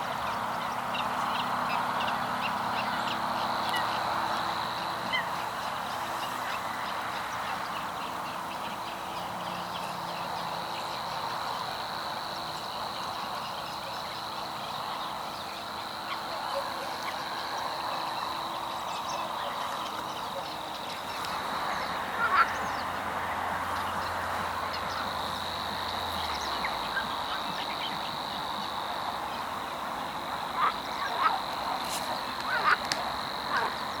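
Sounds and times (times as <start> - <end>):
geese honking: 0.0 - 34.0.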